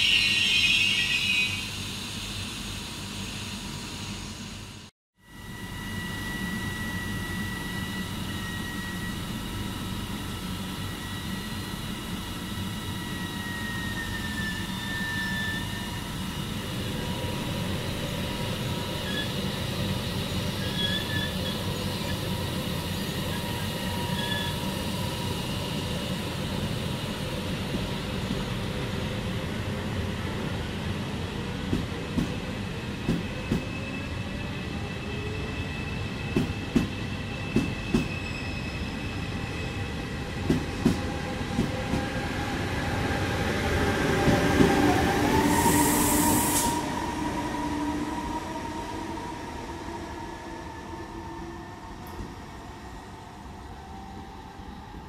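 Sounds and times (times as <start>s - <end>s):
train rumbling: 5.5s - 55.0s.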